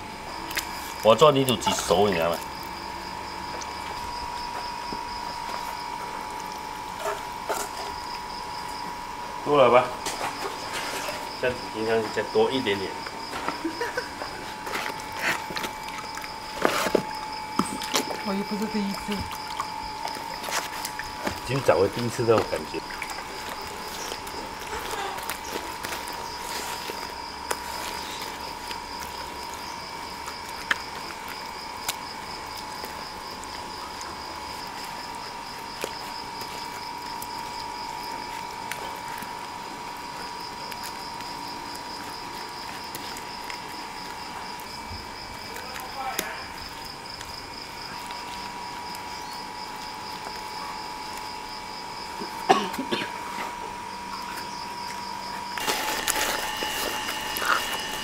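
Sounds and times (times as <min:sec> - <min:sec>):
insect trill: 0:00.0 - 0:58.0
wet mud squeezed by hands: 0:00.3 - 0:08.9, 0:10.0 - 0:58.0.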